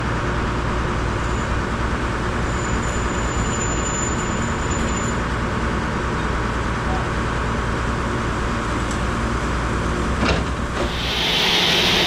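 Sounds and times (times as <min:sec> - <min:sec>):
heavy engine rumbling: 0:00.0 - 0:12.0.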